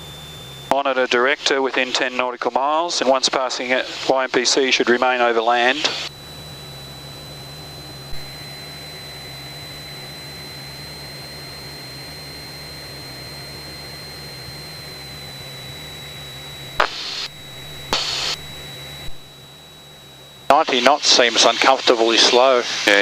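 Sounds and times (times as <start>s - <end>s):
airplane engine and propeller drone: 0.0s - 23.0s
thin high whine: 0.0s - 23.0s
static bursts: 0.7s - 23.0s.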